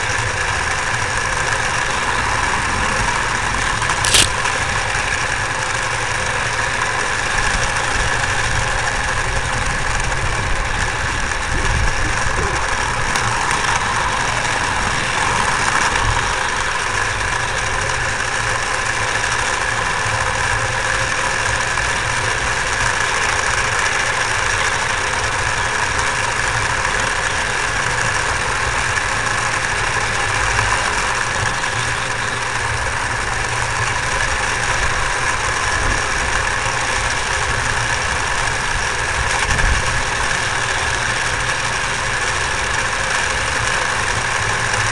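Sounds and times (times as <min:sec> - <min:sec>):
miniature steam train rumbling: 0:00.0 - 0:44.9.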